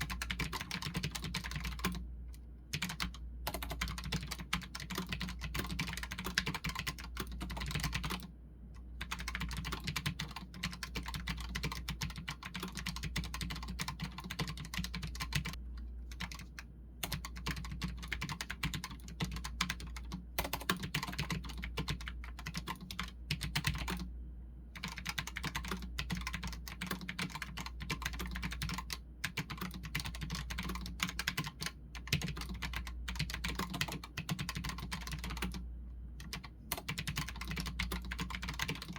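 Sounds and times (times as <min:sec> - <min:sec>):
mechanical keyboard typing: 0:00.0 - 0:02.0, 0:02.7 - 0:24.1, 0:24.8 - 0:35.6, 0:36.2 - 0:38.9
steady low hum: 0:00.0 - 0:38.9.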